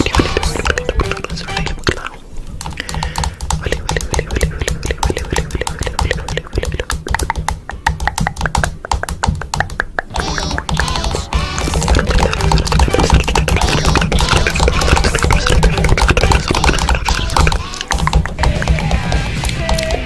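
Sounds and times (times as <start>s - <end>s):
rapid typing clicks: 2.6s - 20.0s.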